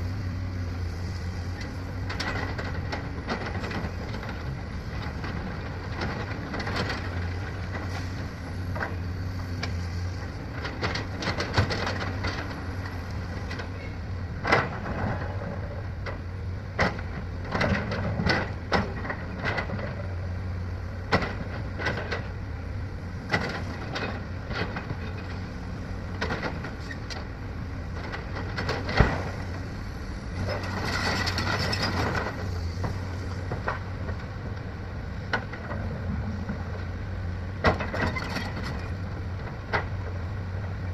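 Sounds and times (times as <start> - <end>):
heavy machinery diesel drone: 0.0 - 40.9.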